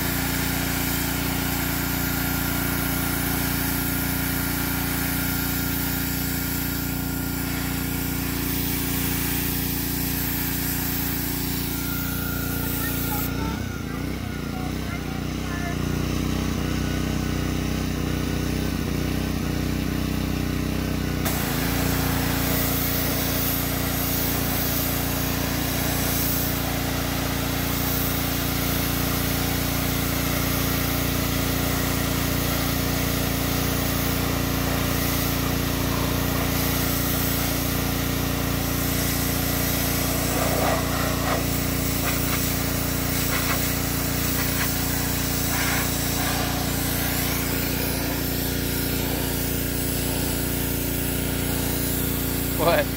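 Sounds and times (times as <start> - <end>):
high-pressure water jet hissing: 0.0 - 15.3, 21.2 - 52.9
pressure washer engine running: 0.0 - 52.9.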